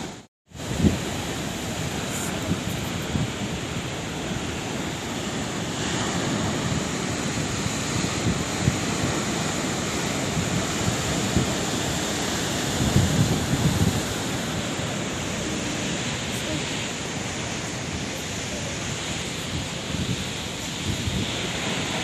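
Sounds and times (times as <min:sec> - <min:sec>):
sea waves breaking: 0:00.0 - 0:22.0.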